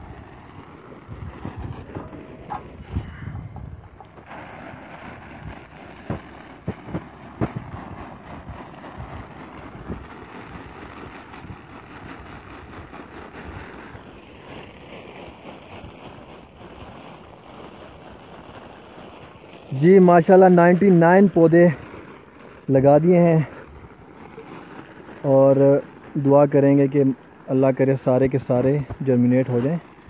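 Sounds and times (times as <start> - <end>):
wind buffeting microphone: 0.0 - 14.1, 19.3 - 30.0.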